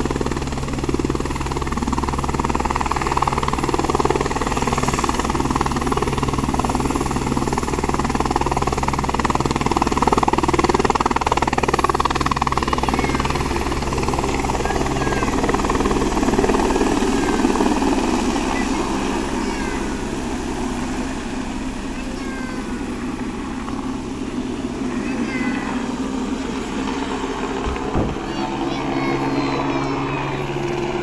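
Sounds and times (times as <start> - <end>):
helicopter rotor and turbine: 0.0 - 31.0.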